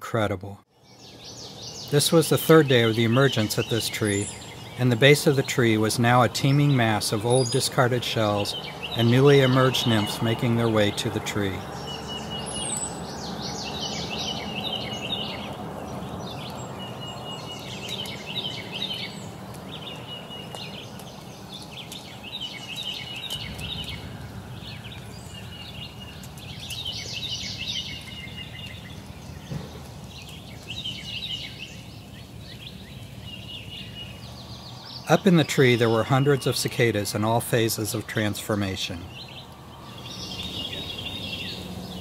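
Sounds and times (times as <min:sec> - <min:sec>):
songbird singing: 0:00.0 - 0:42.0
low outdoor rumble: 0:00.4 - 0:42.0.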